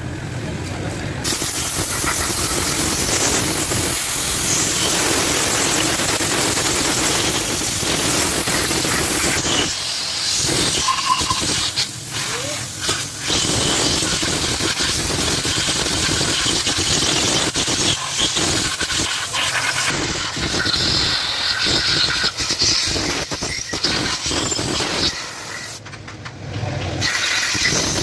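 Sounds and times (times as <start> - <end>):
high-pressure water jet hissing: 1.2 - 25.8, 27.0 - 28.0.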